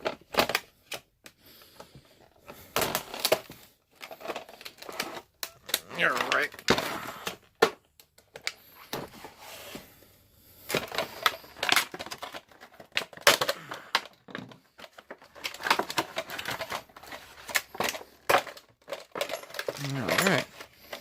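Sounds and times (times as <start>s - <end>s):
plastic and cardboard rustling: 0.0s - 21.0s.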